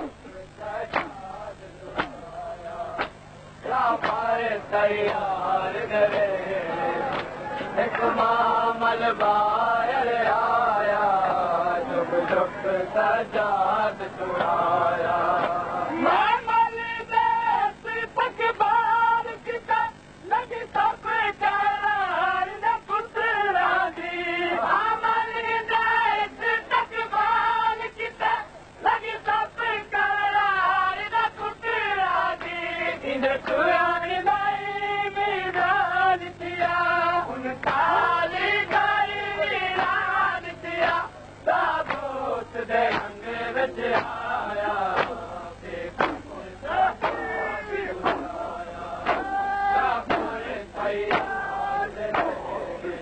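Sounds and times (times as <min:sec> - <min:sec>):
men chanting slowly: 0:00.0 - 0:53.0.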